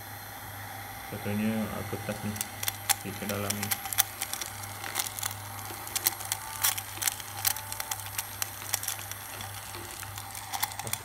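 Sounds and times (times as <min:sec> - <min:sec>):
small motor fan humming: 0:00.0 - 0:11.0
paper scraps rattling against fan: 0:02.0 - 0:11.0.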